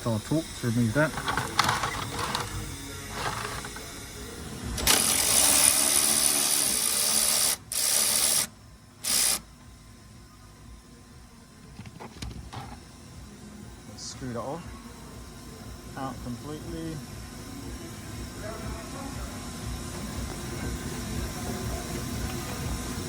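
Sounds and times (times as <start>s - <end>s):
cordless power driver running: 0.0s - 23.0s.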